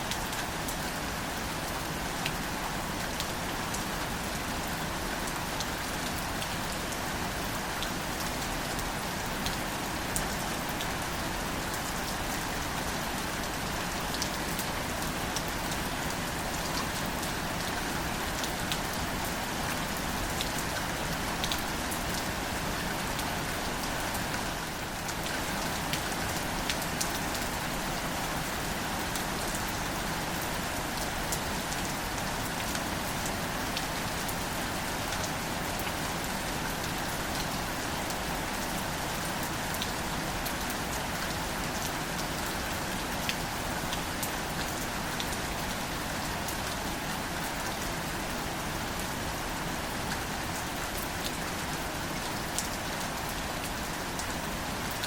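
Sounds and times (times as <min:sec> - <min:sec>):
gentle rain on leaves: 0:00.0 - 0:55.0.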